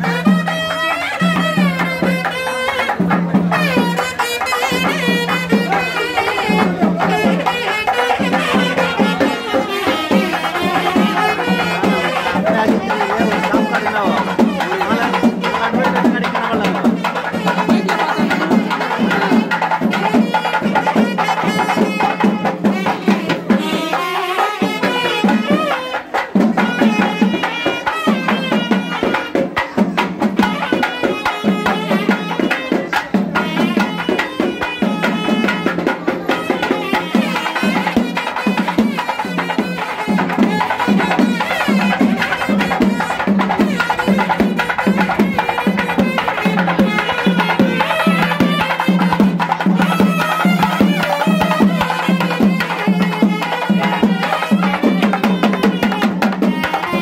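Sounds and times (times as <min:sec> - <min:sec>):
pitched melody line: 0:00.0 - 0:25.8, 0:30.3 - 0:57.0
crowd voices: 0:00.0 - 0:57.0
rapid dense drumming: 0:00.0 - 0:57.0.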